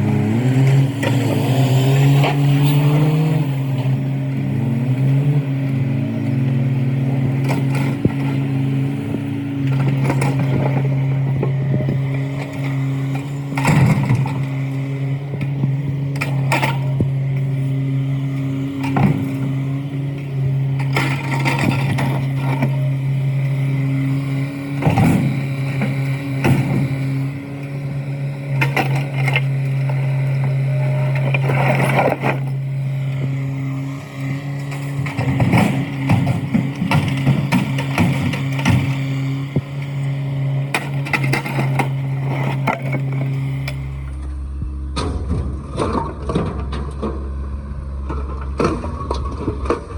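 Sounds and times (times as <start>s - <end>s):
concrete slabs clanking and crashing: 0.0s - 44.2s, 44.9s - 47.4s, 48.0s - 49.9s
diesel engine running: 0.0s - 49.9s.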